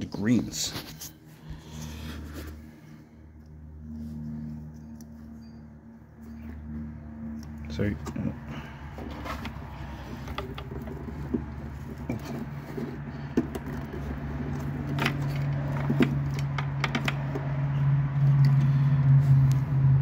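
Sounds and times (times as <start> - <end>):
low hum: 0.7 - 20.0.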